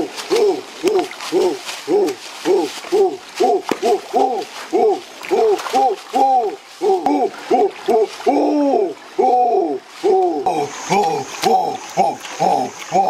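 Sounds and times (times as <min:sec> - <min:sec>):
rapid hooting calls: 0:00.0 - 0:13.0.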